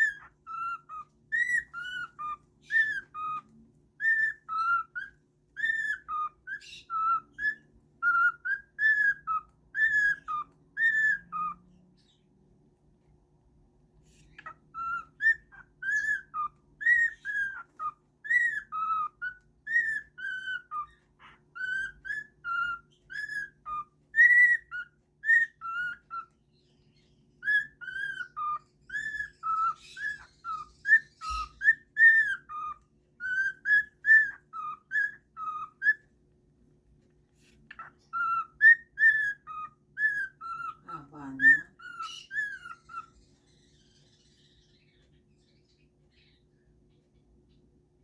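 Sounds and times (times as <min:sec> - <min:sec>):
bird whistling a tune: 0:00.0 - 0:12.2, 0:14.0 - 0:36.2, 0:37.4 - 0:46.4.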